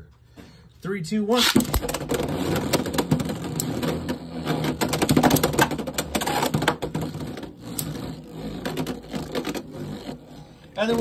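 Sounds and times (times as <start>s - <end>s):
spinning hum: 1.8s - 11.0s.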